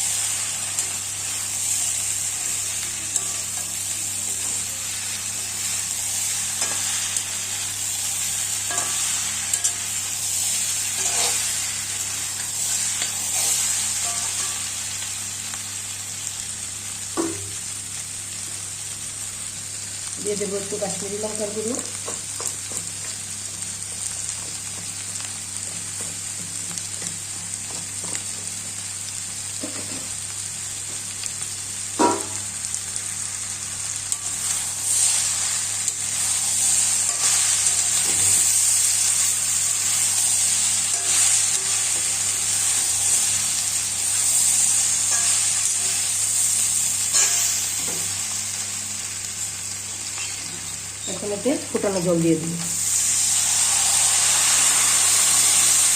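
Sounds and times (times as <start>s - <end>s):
curry sizzling in a pan: 0.0s - 55.9s.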